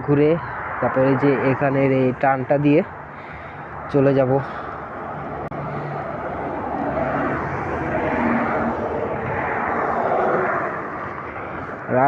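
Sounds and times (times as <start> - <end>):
vehicle passing on highway: 0.0 - 12.0.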